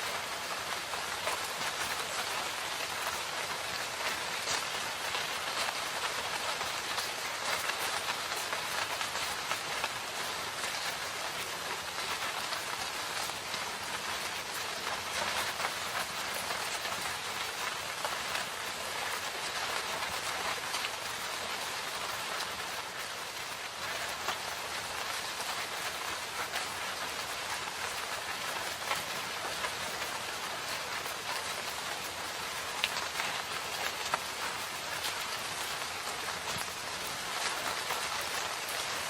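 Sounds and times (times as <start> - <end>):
rain falling in a forest: 0.0 - 39.0.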